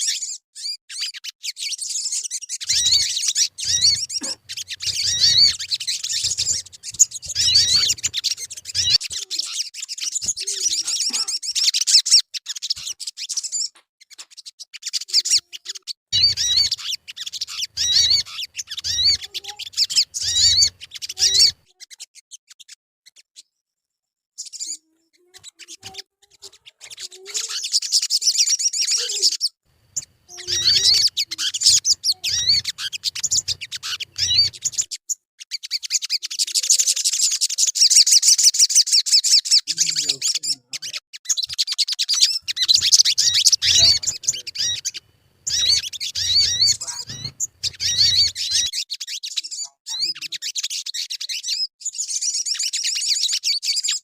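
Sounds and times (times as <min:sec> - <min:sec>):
bird chattering trills: 0:00.0 - 0:23.3, 0:24.4 - 0:54.0.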